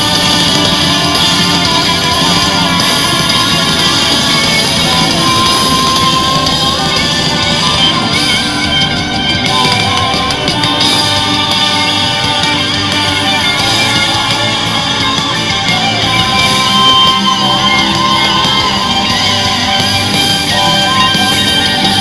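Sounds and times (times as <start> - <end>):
drum kit: 0.0 - 22.0
electric guitars: 0.0 - 22.0.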